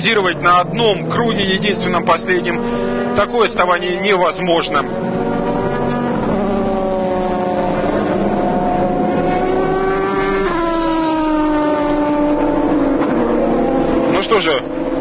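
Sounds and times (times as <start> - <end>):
race car engine driving past: 0.3 - 15.0.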